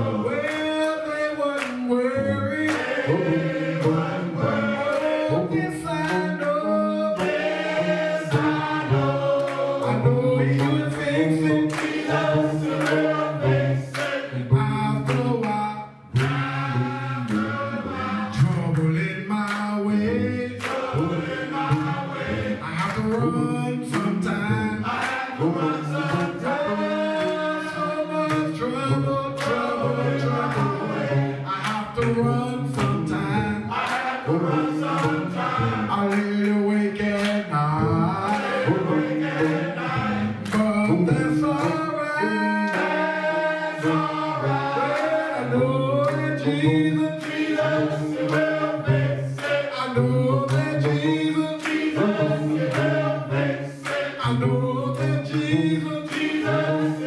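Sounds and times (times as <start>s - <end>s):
men's choir singing gospel: 0.0s - 57.0s.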